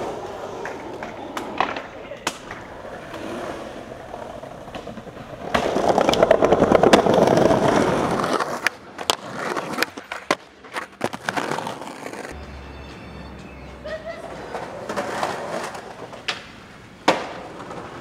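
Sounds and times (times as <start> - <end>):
skateboard clacking on ground: 0.0 - 12.4, 14.3 - 18.0
skateboard wheels rolling on pavement: 0.0 - 12.4, 14.2 - 18.0.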